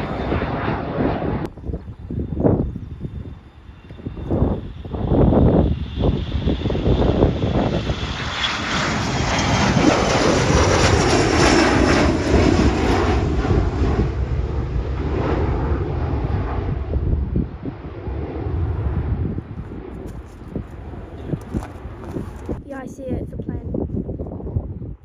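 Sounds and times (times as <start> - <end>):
aircraft engines passing overhead: 0.0 - 25.0.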